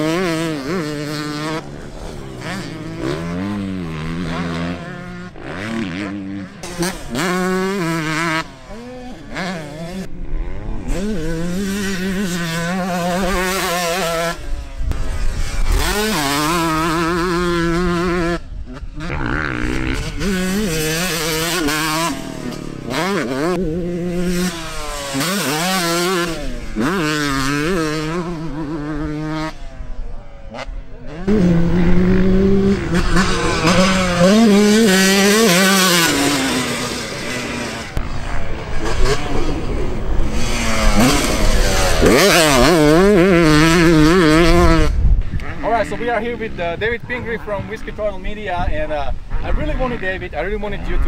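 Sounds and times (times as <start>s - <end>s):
two-stroke motorcycle engine revving: 0.0s - 48.0s.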